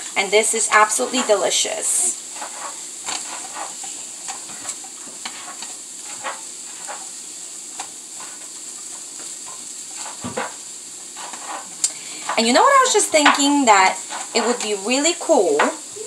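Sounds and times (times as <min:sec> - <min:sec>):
food sizzling in a frying pan: 0:00.0 - 0:16.0
spatula scraping a pan: 0:00.5 - 0:15.8.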